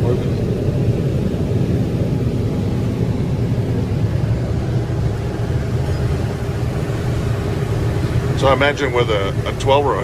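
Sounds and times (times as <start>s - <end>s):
combine harvester drone: 0.0s - 10.0s.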